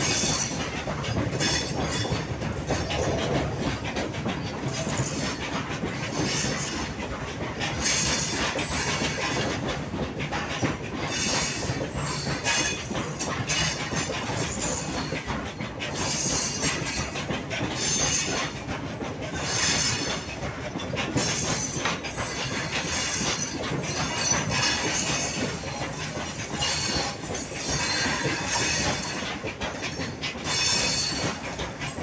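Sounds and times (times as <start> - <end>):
train wheels clattering on rails: 0.0 - 32.0.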